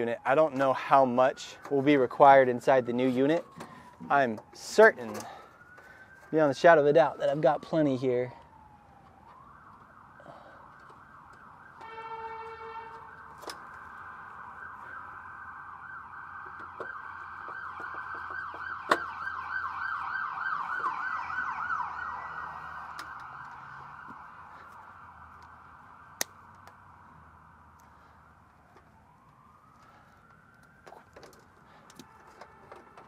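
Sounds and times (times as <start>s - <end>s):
emergency vehicle siren: 0.0s - 33.0s.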